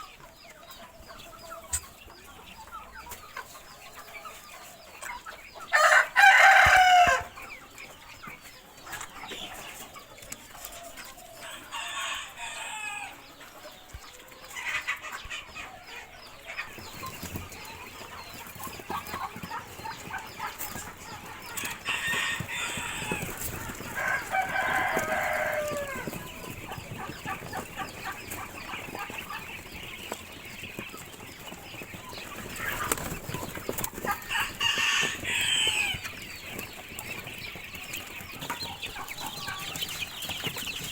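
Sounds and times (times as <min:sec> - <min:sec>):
chickens clucking: 0:00.0 - 0:40.9
loud chicken calls: 0:00.0 - 0:40.9.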